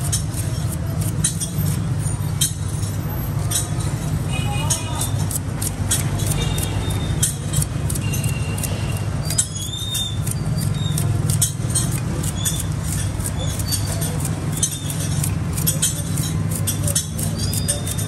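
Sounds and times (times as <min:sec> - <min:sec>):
blade scraping sugarcane: 0:00.0 - 0:18.0.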